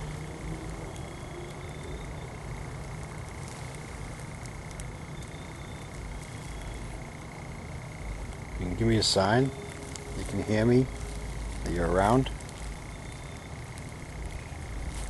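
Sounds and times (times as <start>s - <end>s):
faint chirps: 0.0s - 15.0s
faint high whine: 0.0s - 15.0s
low rumble with hiss: 0.0s - 15.0s.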